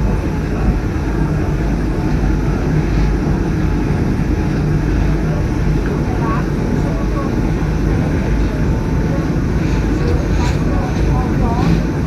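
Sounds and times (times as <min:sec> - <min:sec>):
railcar rumbling along track: 0:00.0 - 0:12.0.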